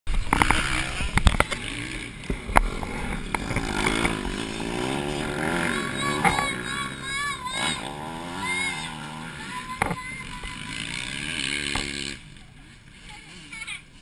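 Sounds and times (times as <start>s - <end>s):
motocross bike engines revving: 0.1s - 14.0s.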